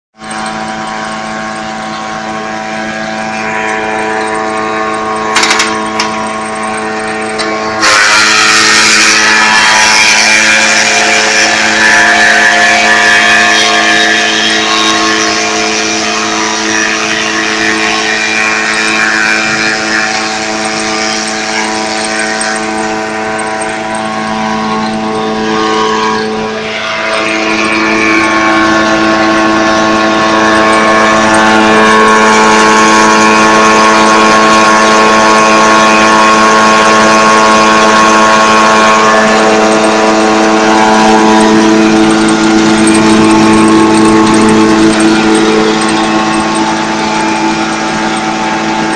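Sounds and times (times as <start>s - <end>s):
machine hum: 0.2s - 48.9s.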